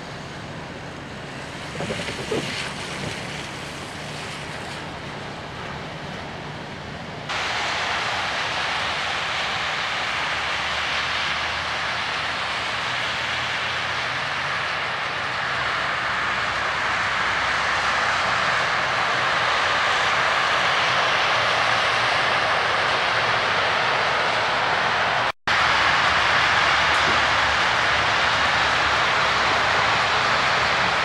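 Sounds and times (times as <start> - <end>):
faint engine hum: 0.0 - 31.0
traffic on wet pavement: 0.0 - 31.0.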